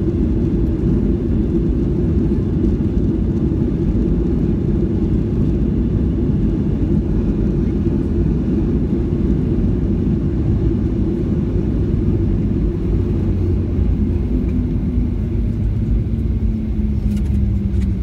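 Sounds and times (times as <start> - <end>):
jet engine and wheel noise: 0.0 - 18.0.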